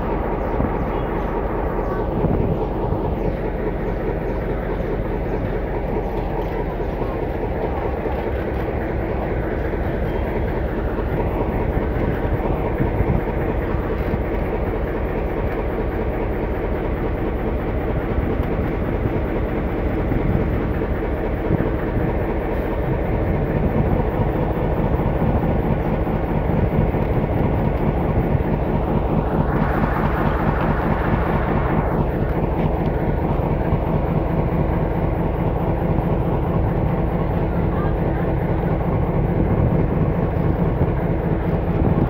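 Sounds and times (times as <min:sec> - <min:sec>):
locomotive engine passing: 0:00.0 - 0:42.0
train wheels rolling on rails: 0:00.0 - 0:42.0.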